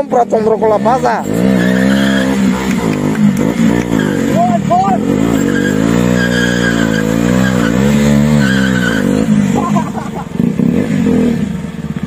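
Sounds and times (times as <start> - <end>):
motorcycle engine revving: 0.0 - 12.0
tyre skidding on tarmac: 0.8 - 12.0.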